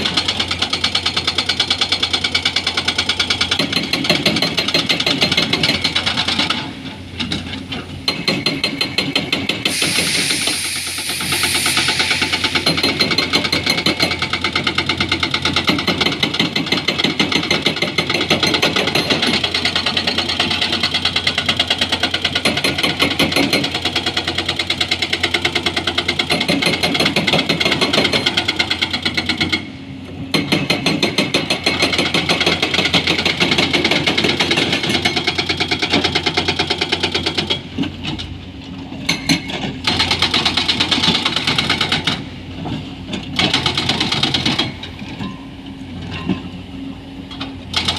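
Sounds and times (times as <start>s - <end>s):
hydraulic breaker hammering rock: 0.0s - 7.4s, 8.0s - 29.7s, 30.3s - 37.6s, 39.0s - 42.2s, 43.3s - 44.9s.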